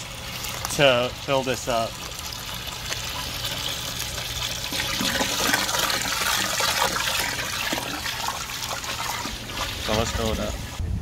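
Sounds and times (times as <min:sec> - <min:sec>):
hose water pouring into metal pot: 0:00.0 - 0:10.8.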